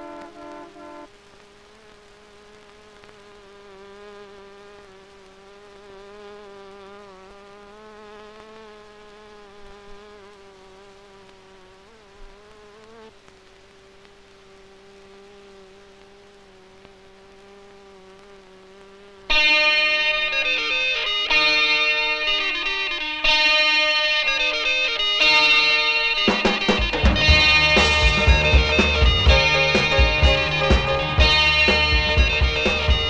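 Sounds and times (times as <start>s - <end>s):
insect-like buzzing drone: 0.0s - 33.0s.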